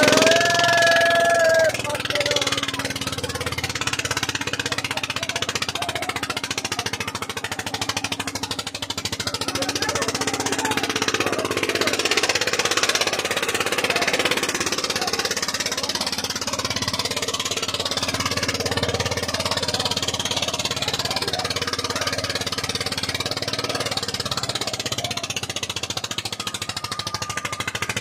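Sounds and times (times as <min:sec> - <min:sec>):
diesel engine knocking under load: 0:00.0 - 0:28.0.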